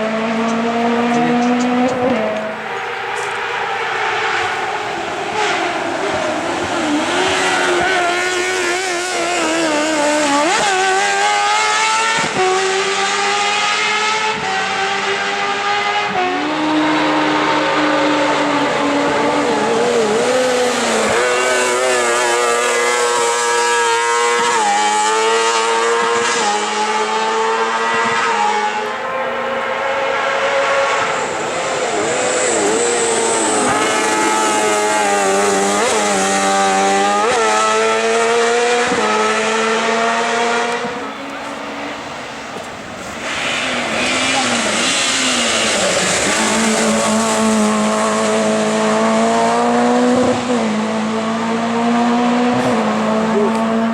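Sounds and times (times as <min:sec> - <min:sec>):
race car engine at high revs: 0:00.0 - 0:53.9.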